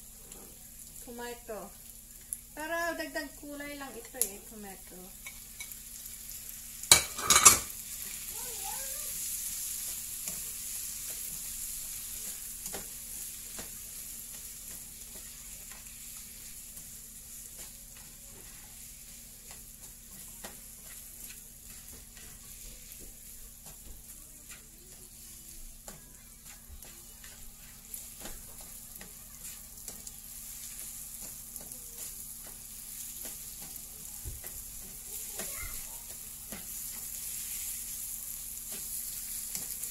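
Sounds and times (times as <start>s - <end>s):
food sizzling in a frying pan: 0.0s - 39.9s
spatula scraping a pan: 6.9s - 39.9s.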